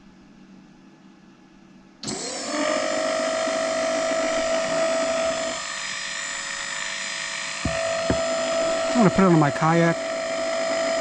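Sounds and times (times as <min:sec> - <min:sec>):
thruster motor whining: 0:02.0 - 0:11.0.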